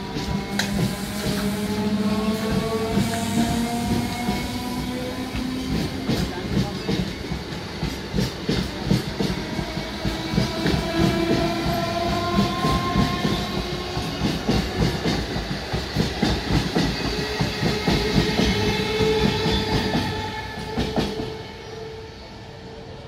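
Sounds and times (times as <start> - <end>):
train wheels clattering over joints: 0.0 - 21.8
electric train whine: 0.0 - 23.0.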